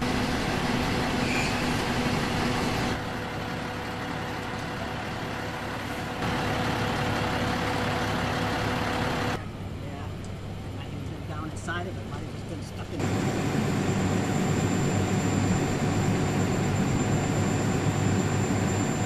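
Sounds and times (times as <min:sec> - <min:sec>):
engine humming: 0:00.0 - 0:19.0
outdoor noise: 0:00.0 - 0:19.0.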